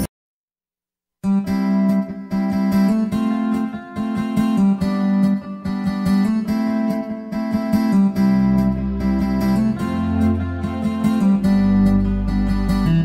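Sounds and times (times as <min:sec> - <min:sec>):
strummed acoustic guitar: 0:01.3 - 0:13.0.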